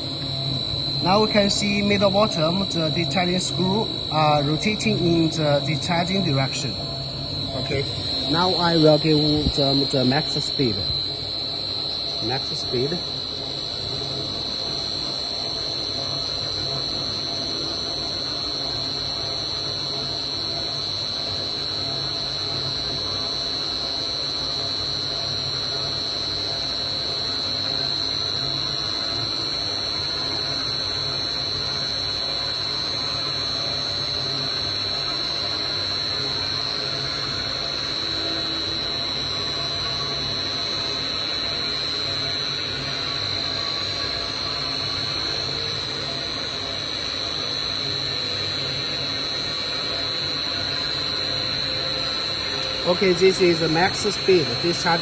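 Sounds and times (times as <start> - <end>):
mixer motors humming and whining: 0.0 - 55.0.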